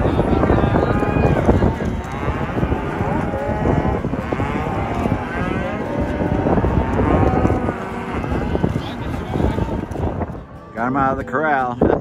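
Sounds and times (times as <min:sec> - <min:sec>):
cows mooing and bawling: 0:00.0 - 0:10.4.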